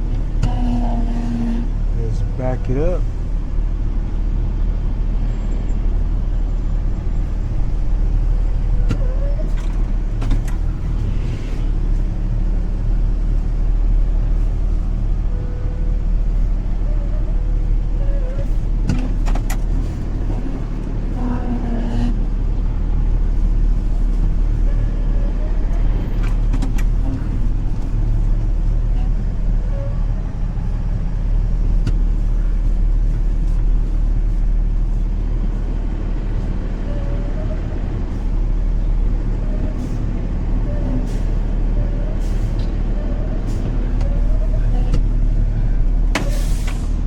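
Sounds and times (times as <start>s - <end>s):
truck diesel engine running: 0.0s - 47.0s.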